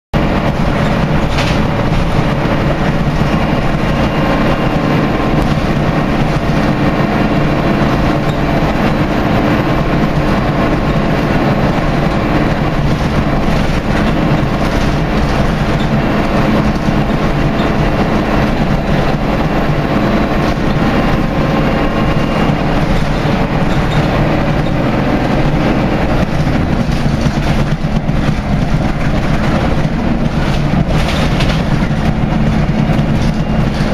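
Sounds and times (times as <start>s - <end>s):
bus diesel engine running: 0.1s - 33.9s
road noise: 0.1s - 33.9s
body rattles: 0.3s - 33.9s.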